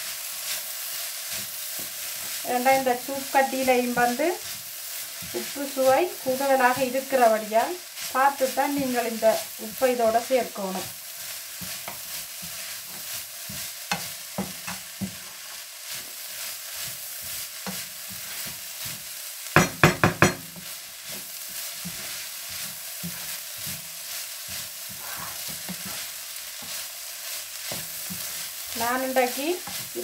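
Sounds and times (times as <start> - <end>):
food sizzling in a frying pan: 0.0 - 30.0
wooden spatula scraping: 0.4 - 19.1, 20.6 - 30.0.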